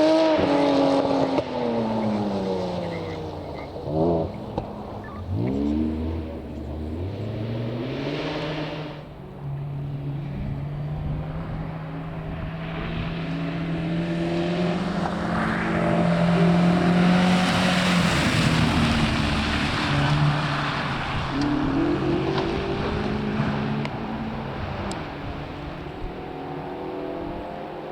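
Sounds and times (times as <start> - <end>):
rally car engine: 0.0 - 27.9.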